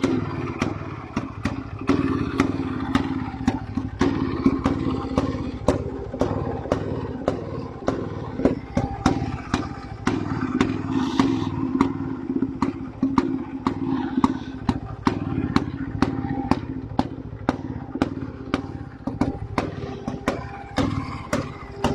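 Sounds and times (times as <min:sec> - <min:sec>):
two-stroke motorcycle engine idling: 0:00.0 - 0:21.9.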